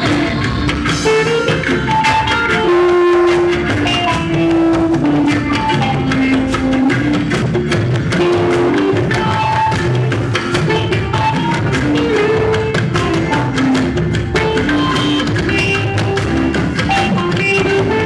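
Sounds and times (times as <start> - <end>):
drums and hand percussion beat: 0.0 - 18.0
held melody notes: 0.0 - 18.0.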